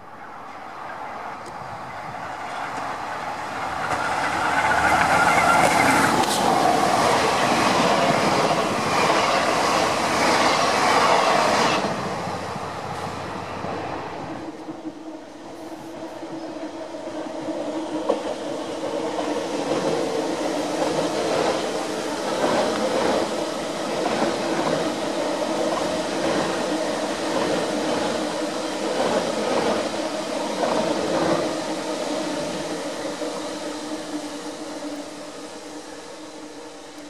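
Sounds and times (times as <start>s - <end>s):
passenger train passing: 0.0s - 37.0s.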